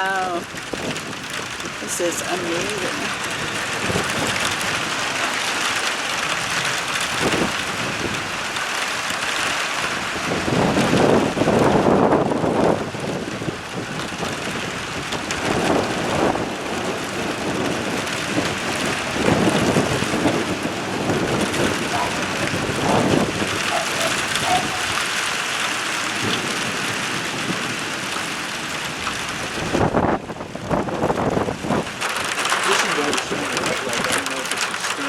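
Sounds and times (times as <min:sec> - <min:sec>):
thunder rolling: 0:00.0 - 0:08.6, 0:09.2 - 0:35.0
rain falling: 0:00.0 - 0:35.0.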